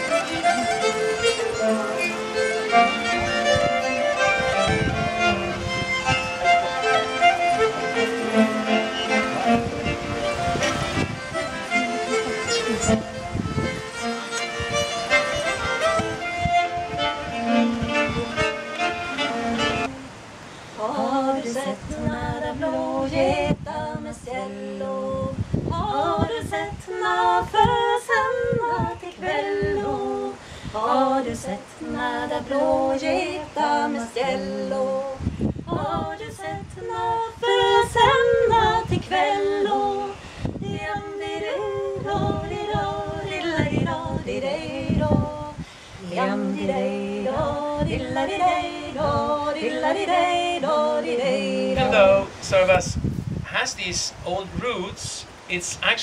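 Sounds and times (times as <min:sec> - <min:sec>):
woman singing unaccompanied: 0:00.0 - 0:52.4.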